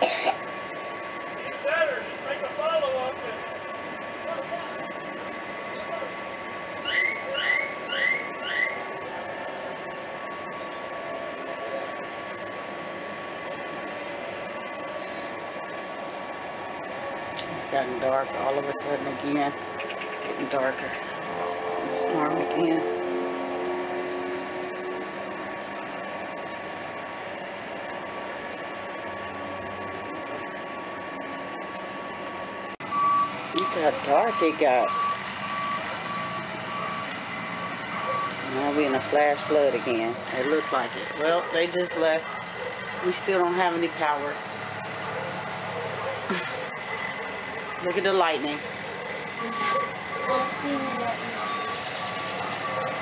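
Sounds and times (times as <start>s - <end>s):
wind: 0.0s - 53.0s.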